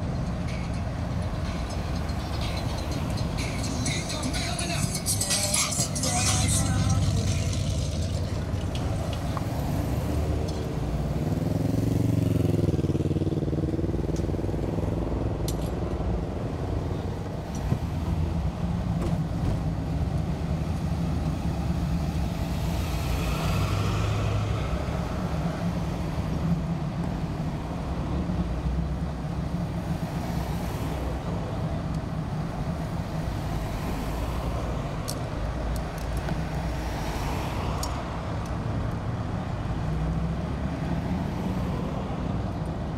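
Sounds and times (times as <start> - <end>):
passing vehicle engine: 0.0 - 42.9
street traffic rumble: 0.0 - 42.9.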